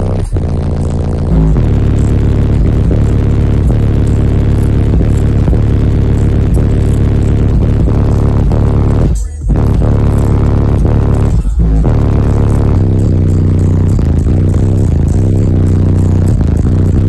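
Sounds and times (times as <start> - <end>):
loud bass-heavy music: 0.0 - 17.0.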